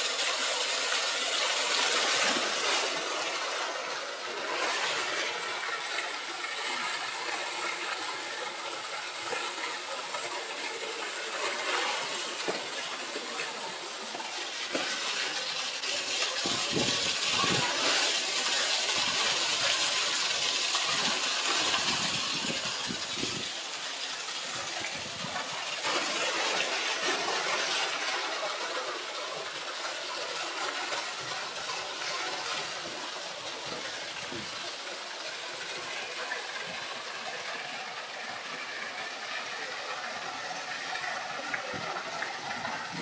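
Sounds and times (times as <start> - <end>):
waterfall pouring into pool: 0.0 - 43.0.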